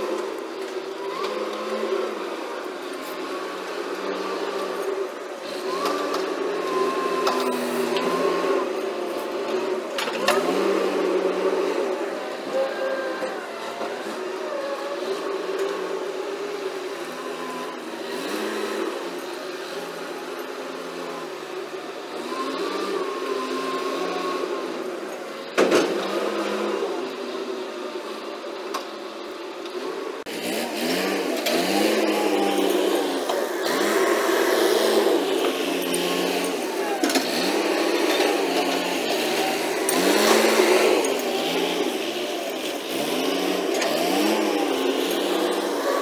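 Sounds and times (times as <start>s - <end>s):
forklift engine running: 0.0s - 46.0s.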